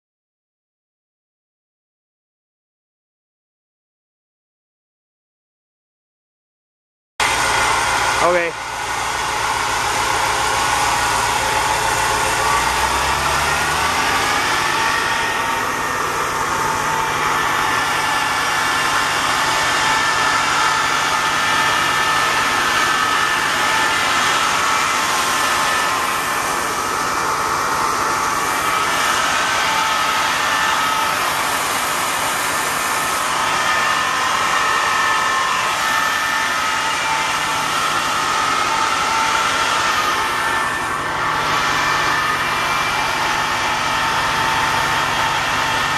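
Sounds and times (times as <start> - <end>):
fire truck engine running: 7.2 - 45.9.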